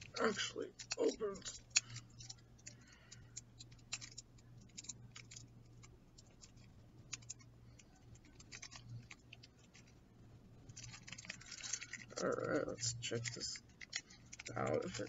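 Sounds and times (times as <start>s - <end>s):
plastic wrapping crinkling: 0.0s - 15.0s
steady low hum: 0.0s - 15.0s.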